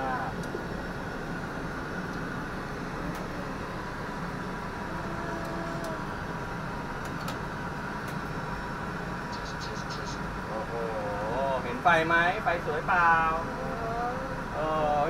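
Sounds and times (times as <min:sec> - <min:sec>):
engine and airflow rush: 0:00.0 - 0:15.0
faint steady hum: 0:00.0 - 0:15.0.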